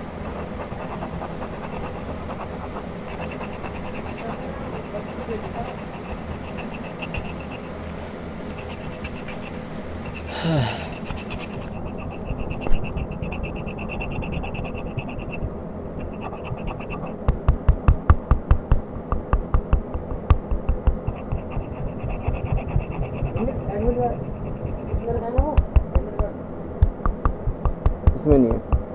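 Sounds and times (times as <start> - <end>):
pencil scratching on paper: 0.0 - 18.0, 20.0 - 26.0.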